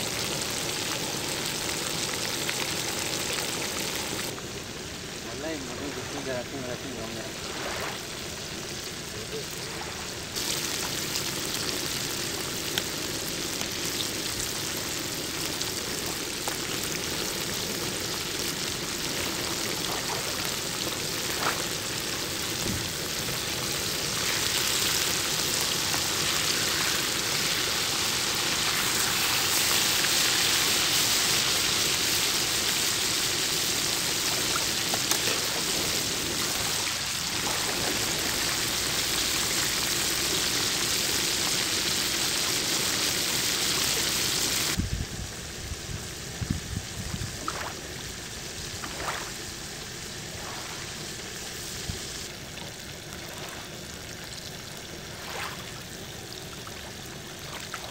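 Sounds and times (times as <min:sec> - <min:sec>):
fish frying in hot oil: 0:00.0 - 0:57.9.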